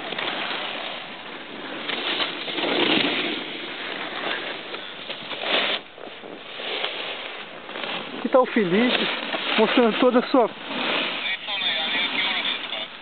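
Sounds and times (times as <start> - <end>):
snowboard edge scraping snow: 0.0 - 12.6.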